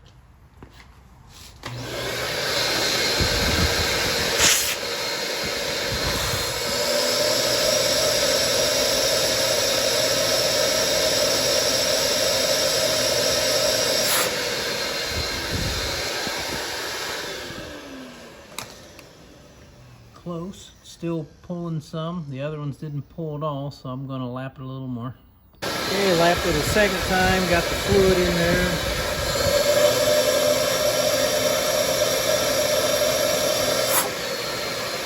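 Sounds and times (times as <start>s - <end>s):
vacuum tester hissing: 1.5s - 22.7s, 25.6s - 35.0s.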